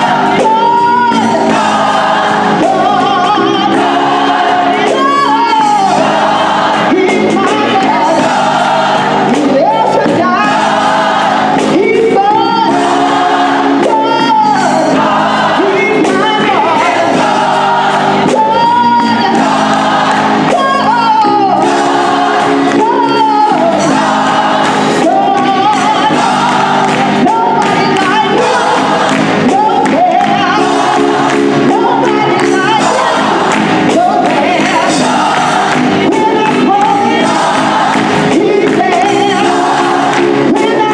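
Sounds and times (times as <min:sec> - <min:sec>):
woman soloist singing: 0:00.0 - 0:11.0, 0:11.6 - 0:40.9
choir clapping: 0:00.0 - 0:40.9
gospel choir singing: 0:00.0 - 0:40.9.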